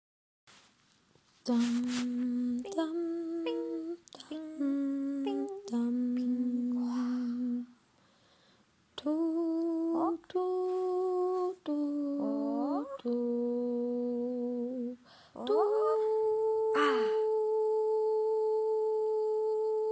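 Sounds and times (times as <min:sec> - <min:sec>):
person humming a slow tune: 0:01.5 - 0:07.8, 0:09.0 - 0:19.9.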